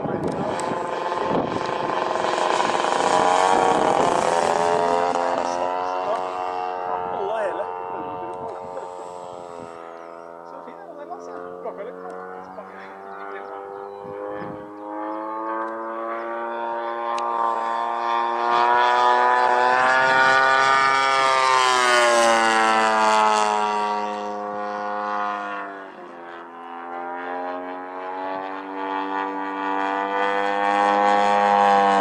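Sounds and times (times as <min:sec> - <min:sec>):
model plane engine flyby: 0:00.0 - 0:32.0.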